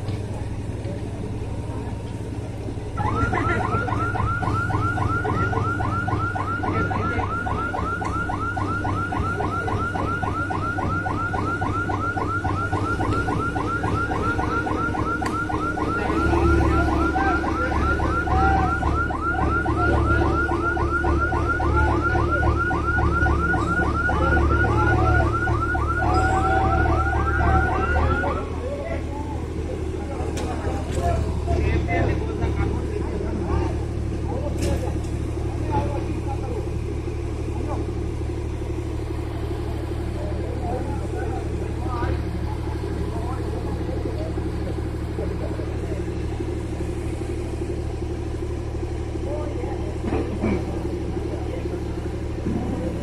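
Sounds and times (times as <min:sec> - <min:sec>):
heavy machinery engine humming: 0:00.0 - 0:53.0.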